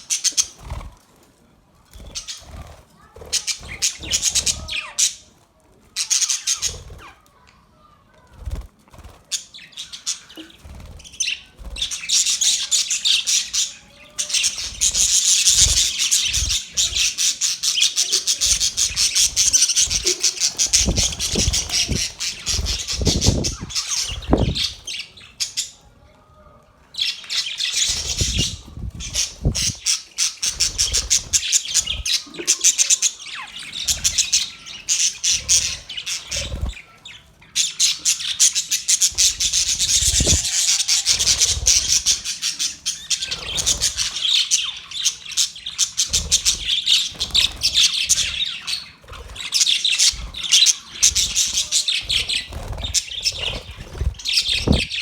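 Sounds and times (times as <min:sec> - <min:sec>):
budgerigars chattering and warbling: 0:00.0 - 0:01.0, 0:02.0 - 0:05.3, 0:06.0 - 0:07.2, 0:08.6 - 0:25.8, 0:27.0 - 0:55.0.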